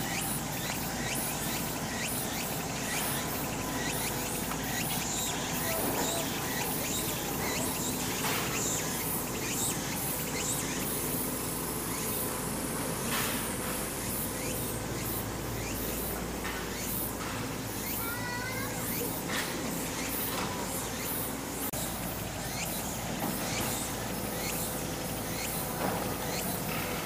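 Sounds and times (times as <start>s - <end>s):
insect buzzing: 0.0s - 27.0s.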